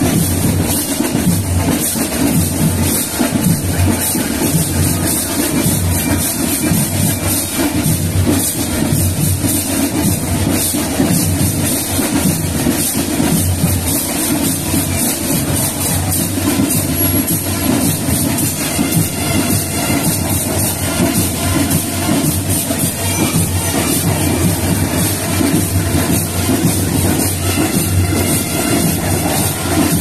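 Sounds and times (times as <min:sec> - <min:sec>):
marching band playing: 0:00.0 - 0:30.0.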